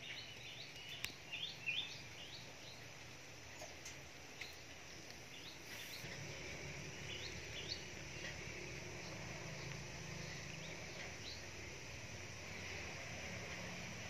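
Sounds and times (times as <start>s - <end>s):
birds chirping: 0.0s - 14.0s
faint outdoor background hiss: 0.0s - 14.0s.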